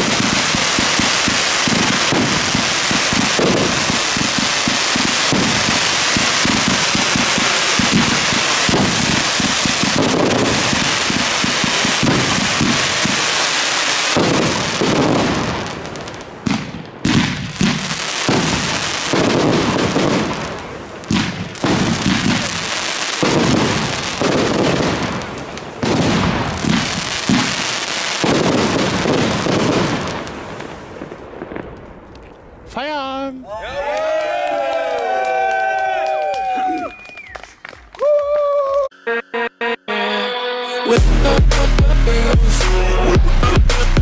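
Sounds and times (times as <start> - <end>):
fireworks rapid shots and bursts: 0.0 - 33.1, 41.0 - 44.0.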